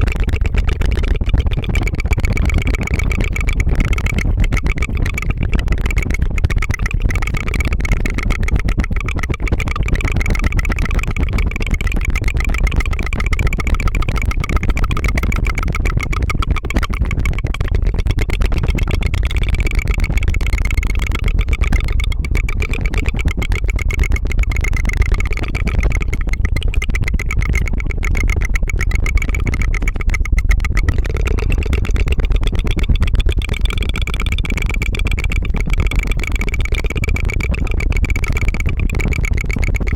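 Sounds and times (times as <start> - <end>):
tongue fluttering trill: 0.0 - 39.9.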